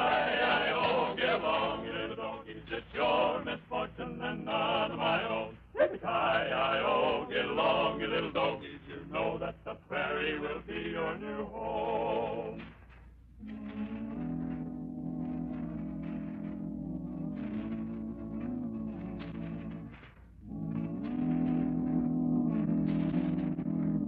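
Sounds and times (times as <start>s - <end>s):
men singing with music: 0.0s - 24.0s.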